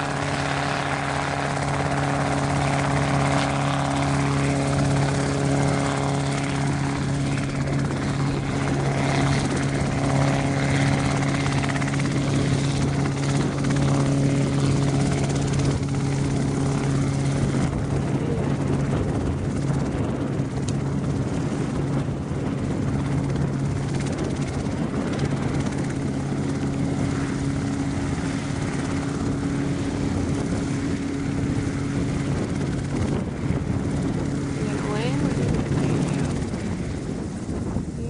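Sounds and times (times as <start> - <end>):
helicopter engine and rotor: 0.0 - 38.0.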